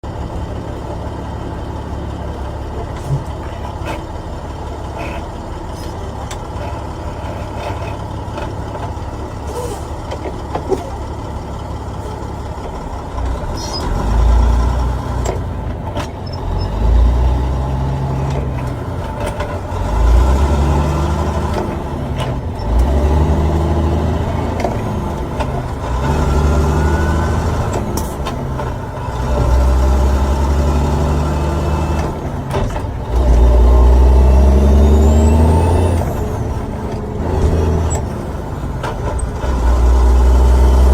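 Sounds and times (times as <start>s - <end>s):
diesel truck engine droning: 0.0s - 40.9s.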